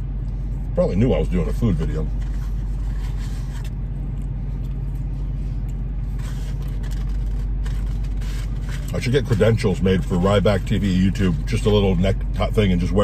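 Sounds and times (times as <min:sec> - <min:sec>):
car idling hum: 0:00.0 - 0:13.0.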